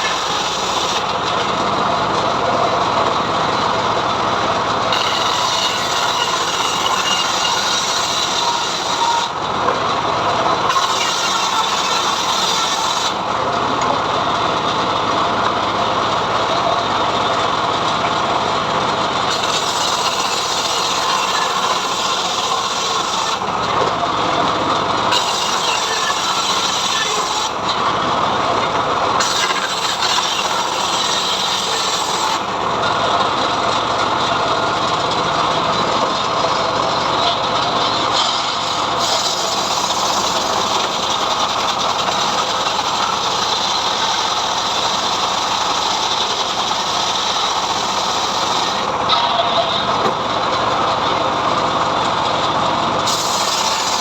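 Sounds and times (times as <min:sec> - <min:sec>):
sawmill blade cutting wood: 0:00.0 - 0:54.0.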